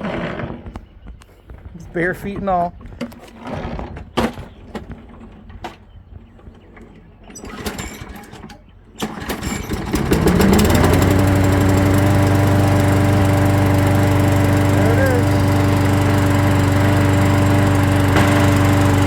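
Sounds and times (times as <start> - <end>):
lawnmower engine starting and running: 3.0 - 19.0.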